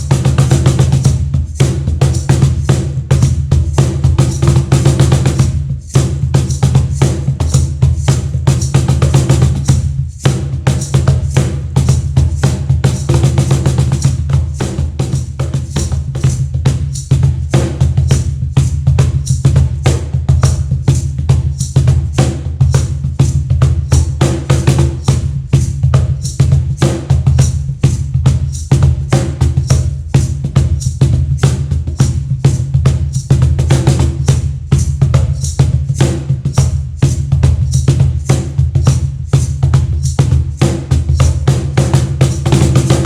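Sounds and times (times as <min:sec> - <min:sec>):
cajon played by hand: 0:00.0 - 0:43.0.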